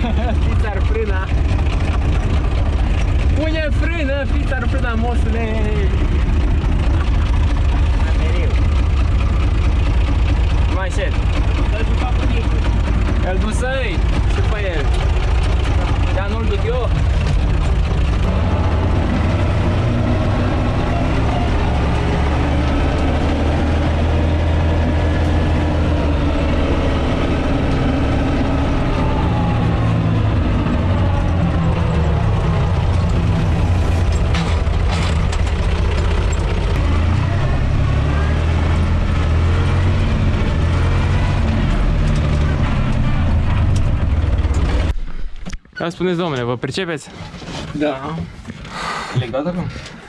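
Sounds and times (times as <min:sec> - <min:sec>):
tractor diesel engine running: 0:00.0 - 0:45.6.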